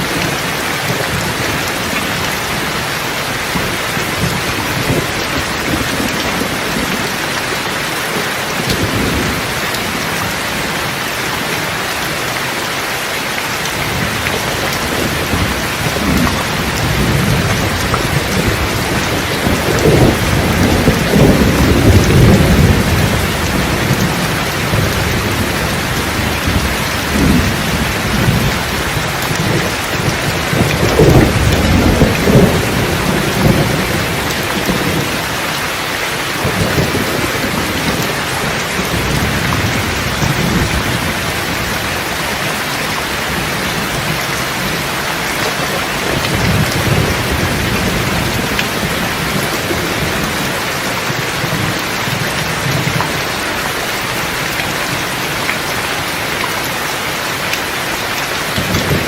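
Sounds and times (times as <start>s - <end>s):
rolling thunder: 0.0s - 7.5s, 13.7s - 55.8s
heavy rain: 0.0s - 59.0s.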